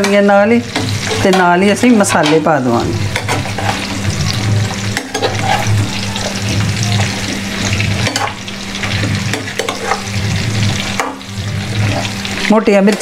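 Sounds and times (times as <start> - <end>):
food sizzling in hot oil: 0.0 - 13.0
steel skimmer scraping a pan: 0.6 - 13.0.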